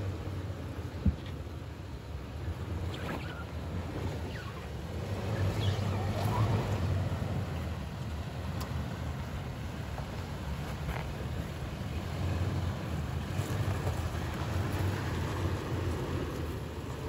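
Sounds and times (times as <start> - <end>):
suv engine running at low revs: 0.0 - 17.0.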